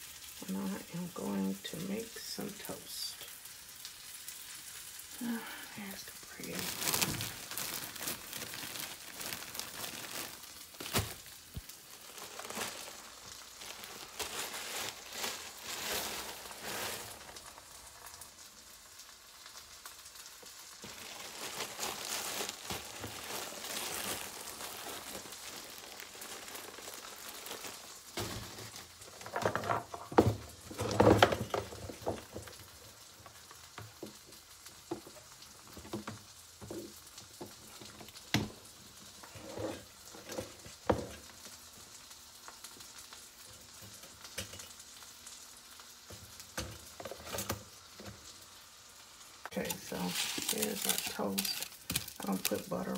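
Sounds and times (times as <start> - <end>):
plastic bread bag crinkling: 0.0 - 52.9
sausages sizzling in a pan: 0.0 - 52.9.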